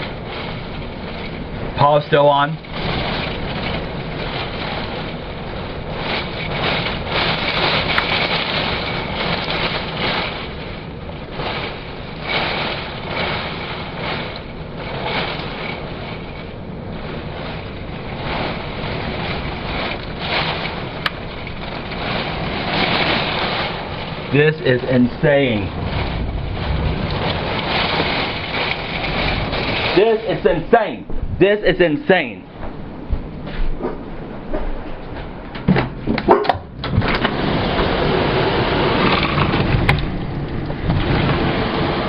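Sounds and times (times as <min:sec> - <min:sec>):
storm wind gusts on microphone: 0:00.0 - 0:42.0.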